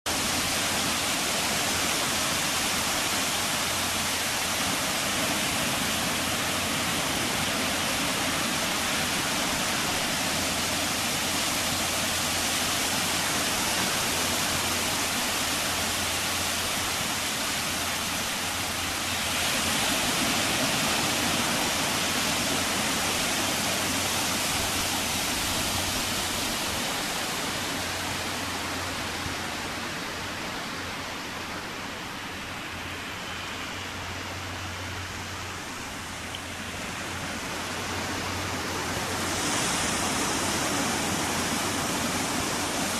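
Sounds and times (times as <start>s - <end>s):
steady rushing noise: 0.1s - 42.9s.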